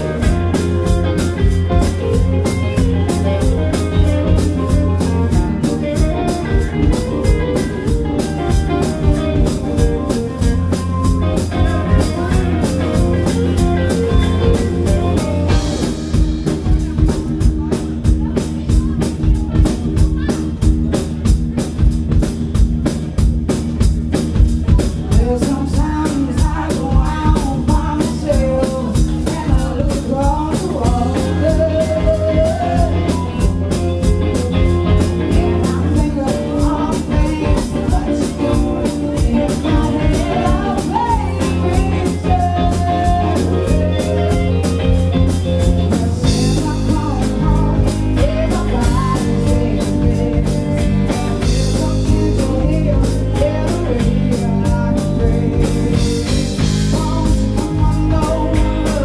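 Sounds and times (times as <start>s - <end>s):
bass guitar: 0.0s - 59.0s
drum kit beat: 0.0s - 59.0s
electric guitars: 0.0s - 59.0s.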